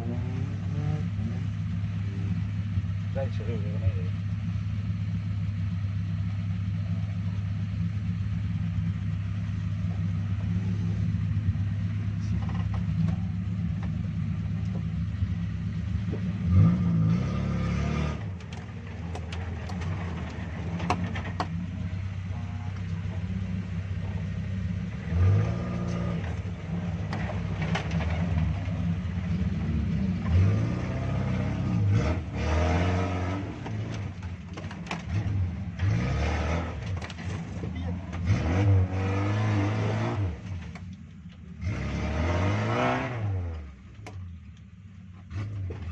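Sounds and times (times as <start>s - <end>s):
car engine running and revving: 0.0s - 45.9s.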